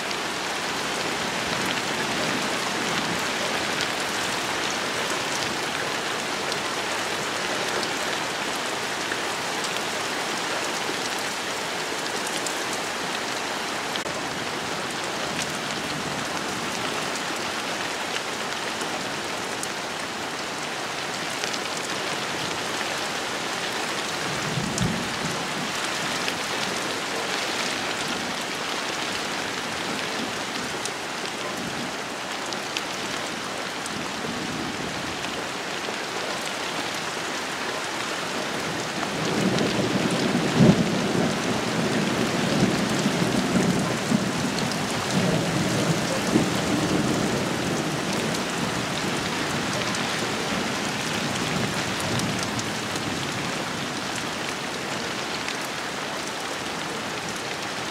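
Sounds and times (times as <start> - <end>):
heavy rain on shrubs: 0.0 - 57.9.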